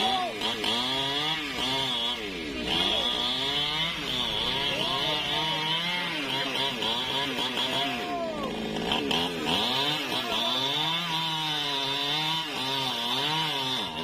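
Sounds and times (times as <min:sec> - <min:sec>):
chainsaw revving: 0:00.0 - 0:14.0.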